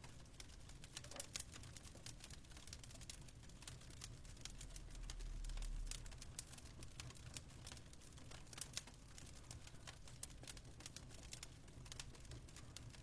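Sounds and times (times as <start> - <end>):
fireplace crackling: 0.0 - 13.0.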